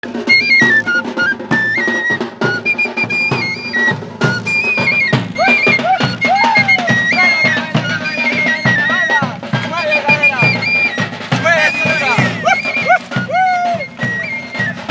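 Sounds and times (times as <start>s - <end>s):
high flute melody: 0.0s - 14.9s
steady drum beat: 0.0s - 14.9s.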